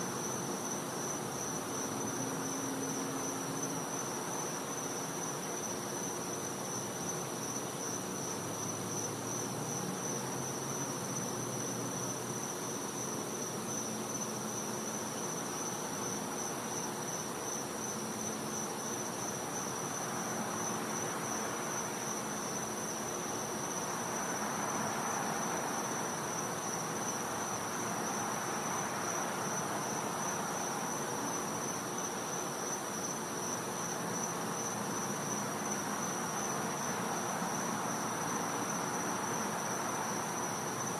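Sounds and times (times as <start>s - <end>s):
insects trilling: 0.0s - 40.9s
soft background hiss: 0.0s - 40.9s.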